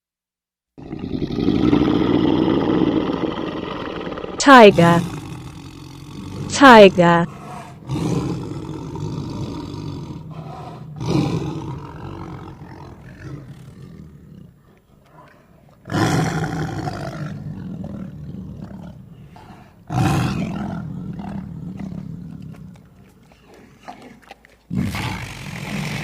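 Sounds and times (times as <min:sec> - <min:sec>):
tiger roaring: 0:00.8 - 0:06.6, 0:07.3 - 0:26.0.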